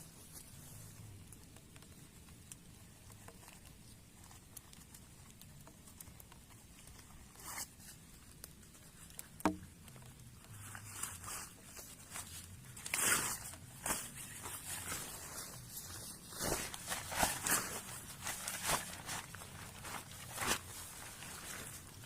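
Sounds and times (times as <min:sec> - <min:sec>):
faint rustles: 0:00.0 - 0:22.0.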